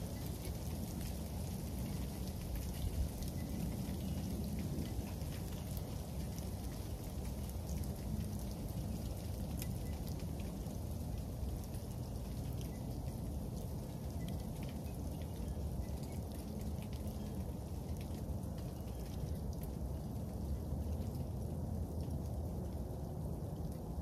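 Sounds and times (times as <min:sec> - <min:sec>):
freezing rain ticking on hard surfaces: 0:00.0 - 0:24.0.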